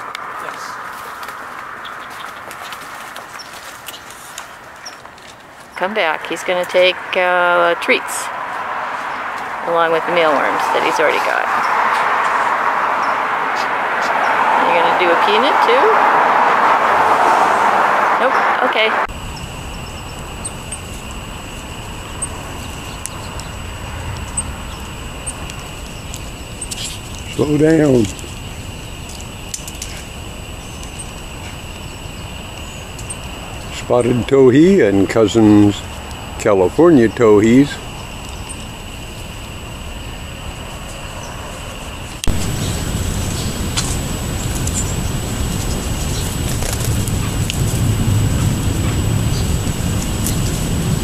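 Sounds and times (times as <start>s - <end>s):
small birds chirping: 0.0s - 15.8s, 19.2s - 51.0s
distant traffic rumble: 0.0s - 51.0s.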